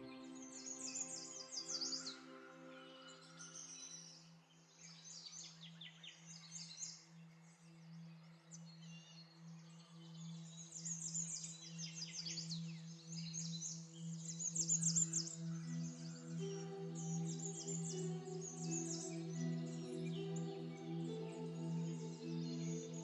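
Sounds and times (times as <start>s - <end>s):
ambient music drone: 0.0s - 4.2s, 7.1s - 23.0s.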